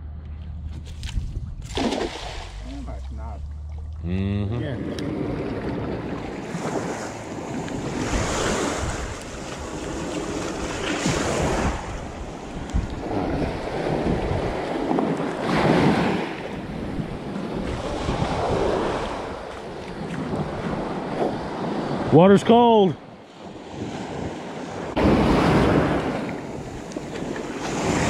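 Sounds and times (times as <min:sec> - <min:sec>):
wind buffeting microphone: 0:00.6 - 0:03.0, 0:04.6 - 0:22.1, 0:23.5 - 0:28.0.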